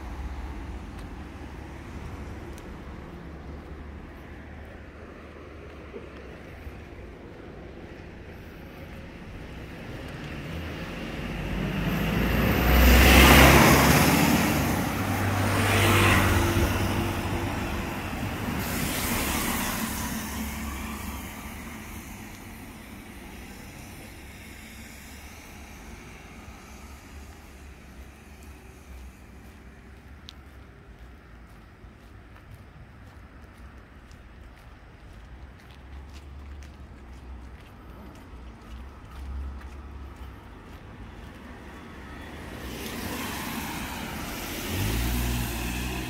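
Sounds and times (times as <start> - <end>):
background traffic: 0.0 - 46.0
road vehicles passing by: 0.0 - 46.0.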